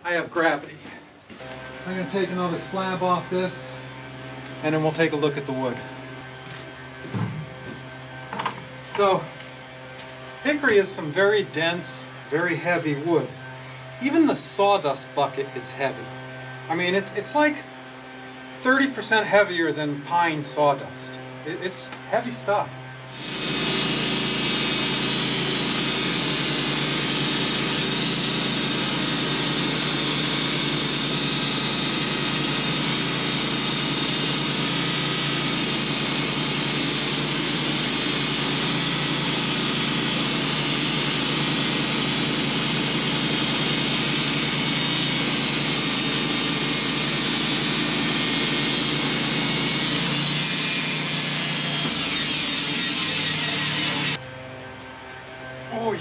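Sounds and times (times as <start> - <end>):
sawmill blade cutting log: 1.4 - 54.2.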